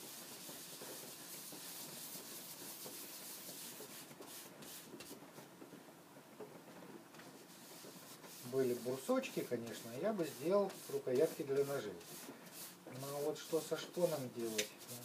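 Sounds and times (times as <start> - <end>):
cloth rag scrubbing wood: 0.0 - 5.2, 7.3 - 15.0.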